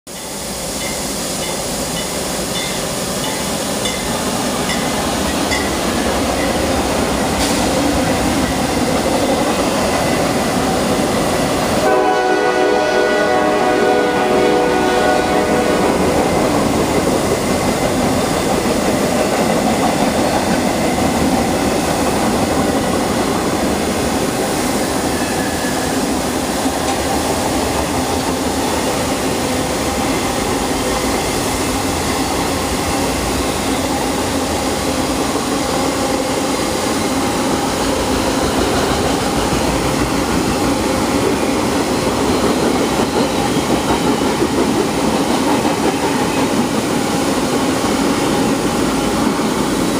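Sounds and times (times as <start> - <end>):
freight train wheels rumbling on rails: 0.1 - 49.9.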